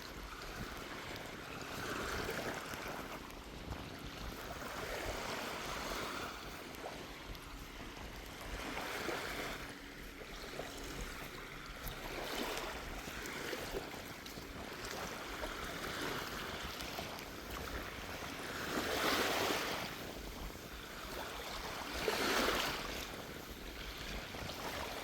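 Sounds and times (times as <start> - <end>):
sea breeze rumble: 0.0 - 25.0
small waves washing on beach: 0.0 - 25.0.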